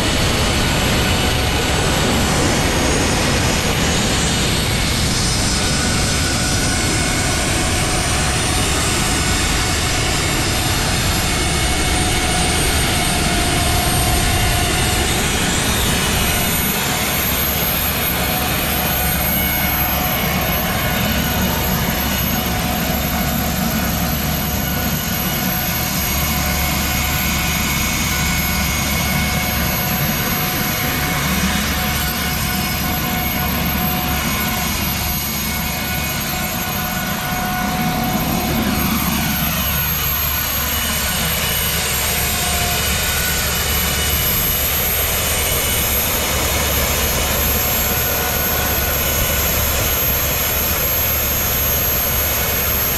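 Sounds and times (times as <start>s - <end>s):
gas turbine whine: 0.0s - 52.9s.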